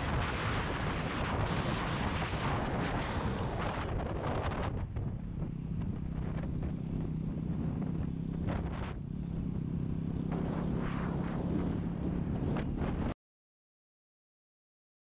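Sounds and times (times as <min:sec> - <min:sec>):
motorcycle engine running: 0:00.0 - 0:13.2
wind rushing over microphone: 0:00.0 - 0:13.2.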